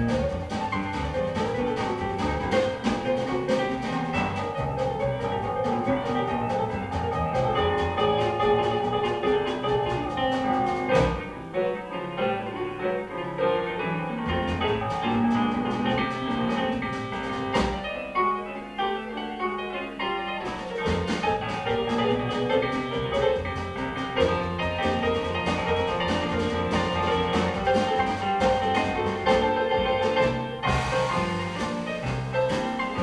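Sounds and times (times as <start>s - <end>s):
upright double bass: 0.0s - 11.9s, 12.5s - 17.9s, 20.4s - 33.0s
jazz piano solo: 0.0s - 33.0s.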